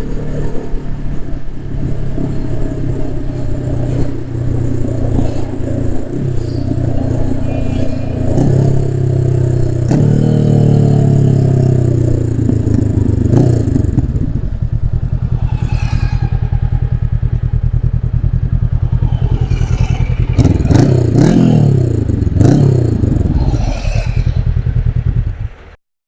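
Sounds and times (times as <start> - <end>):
motorcycle engine idling and revving: 0.0 - 25.8.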